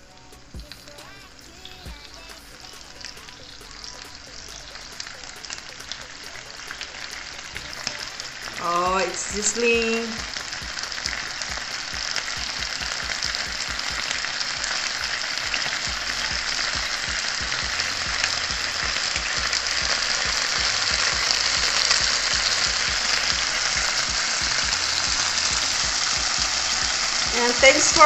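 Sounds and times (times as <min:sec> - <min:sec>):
chicken wings sizzling in oil: 0:00.0 - 0:28.0.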